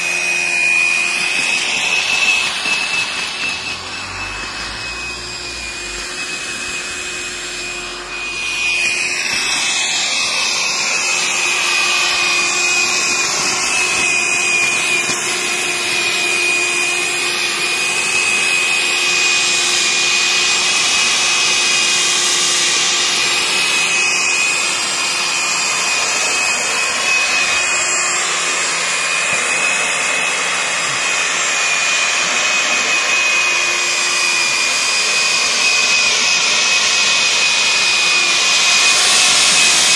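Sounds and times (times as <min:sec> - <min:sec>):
electric tiller motor whine: 0:00.0 - 0:39.9.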